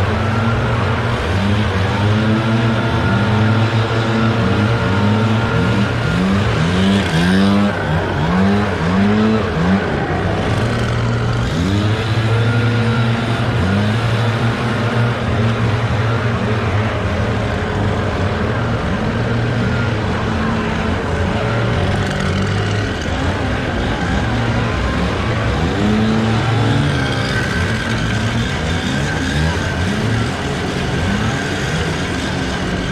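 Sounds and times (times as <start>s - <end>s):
leaf blower engines revving: 0.0s - 32.9s.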